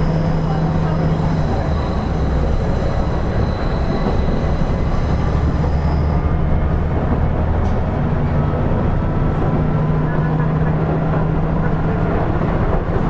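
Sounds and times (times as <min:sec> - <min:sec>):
diesel engine rumble: 0:00.0 - 0:13.0
train wheels on rails: 0:00.0 - 0:13.0.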